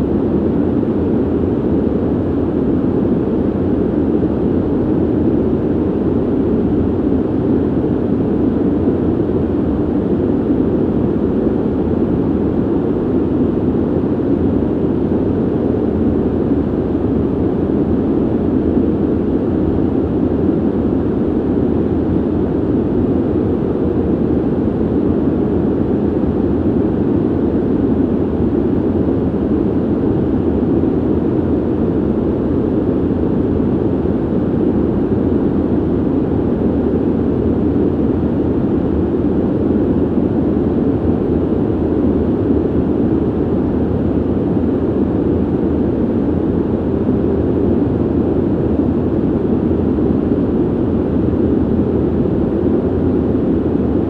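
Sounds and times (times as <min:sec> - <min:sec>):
ventilation air rushing: 0:00.0 - 0:54.0.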